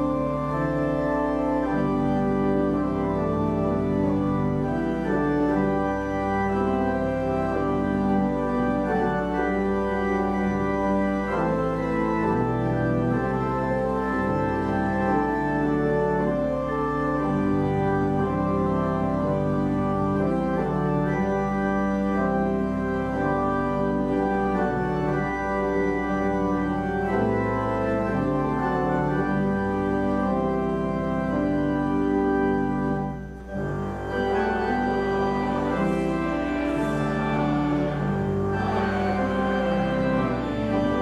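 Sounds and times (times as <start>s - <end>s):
organ playing held chords: 0.0s - 41.0s.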